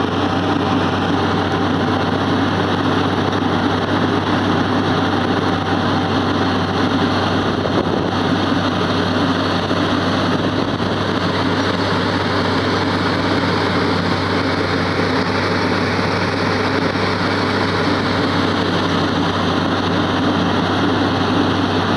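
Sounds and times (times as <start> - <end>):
road milling machine working: 0.0 - 21.9.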